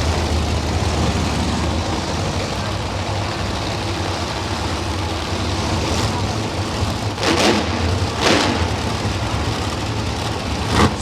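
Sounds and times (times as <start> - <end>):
monster truck engines rumbling: 0.0 - 11.0.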